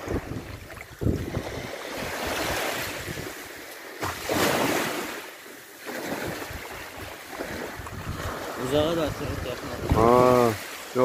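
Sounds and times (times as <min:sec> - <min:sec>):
wind buffeting microphone: 0:00.0 - 0:04.7, 0:06.2 - 0:10.6
small waves washing on shore: 0:00.0 - 0:11.0.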